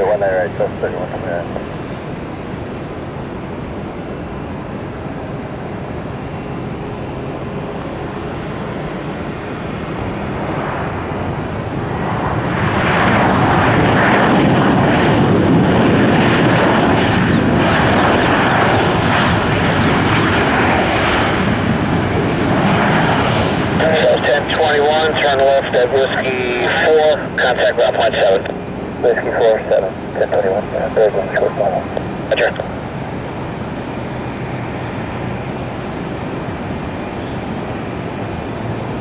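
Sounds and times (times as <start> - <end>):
jet airliner engines landing: 0.0 - 39.0.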